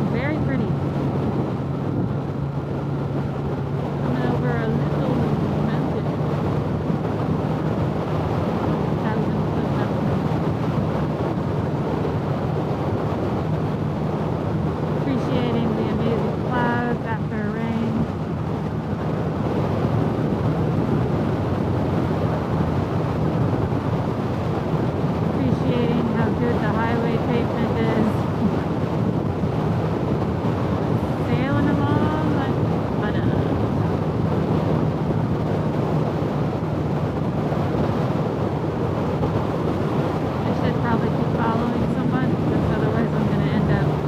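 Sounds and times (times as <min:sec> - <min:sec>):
engine and road drone: 0:00.0 - 0:44.0
wind noise on microphone: 0:00.0 - 0:44.0.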